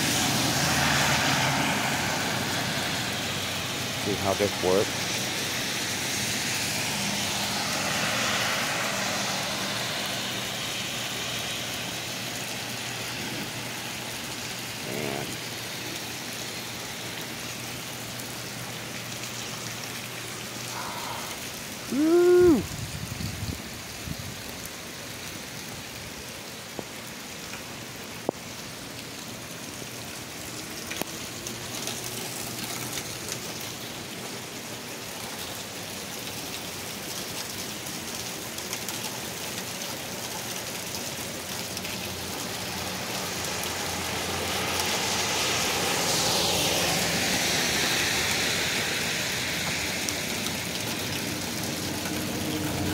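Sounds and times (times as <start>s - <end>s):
heavy rain on pavement: 0.0s - 52.9s.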